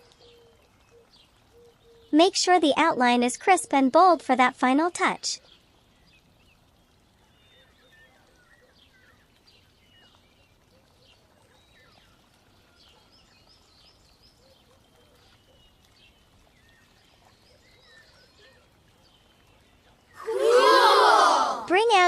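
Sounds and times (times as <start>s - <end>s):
small birds chirping: 0.0s - 20.2s
low steady hiss: 0.0s - 22.0s.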